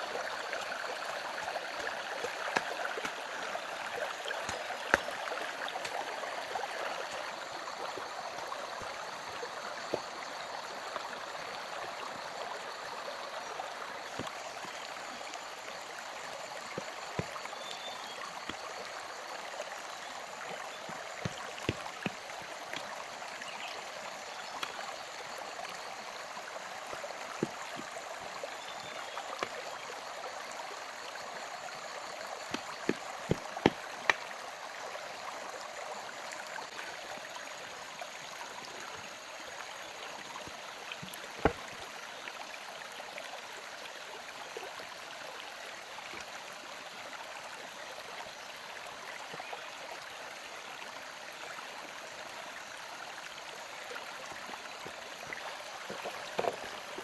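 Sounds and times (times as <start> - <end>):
running water rushing: 0.0 - 49.4, 51.8 - 57.0.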